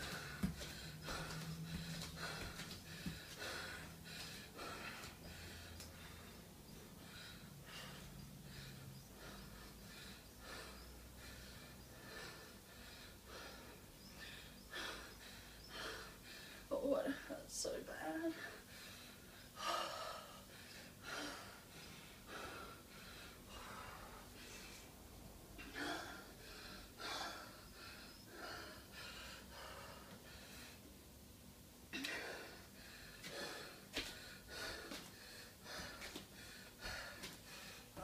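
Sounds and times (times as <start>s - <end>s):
woman breathing hard: 0.0s - 17.3s, 18.3s - 31.1s, 31.9s - 38.0s.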